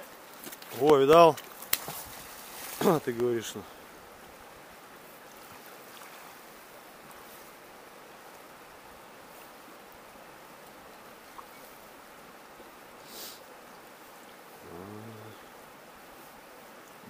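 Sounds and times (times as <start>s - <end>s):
running stream water: 0.0s - 17.0s.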